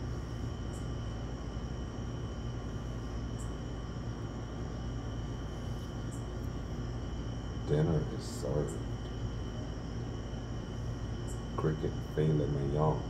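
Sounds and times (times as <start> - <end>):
background rumble and hiss: 0.0 - 13.0.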